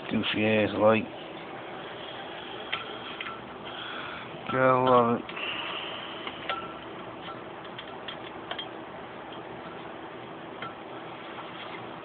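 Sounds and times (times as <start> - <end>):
faint hiss and hum: 0.0 - 12.0.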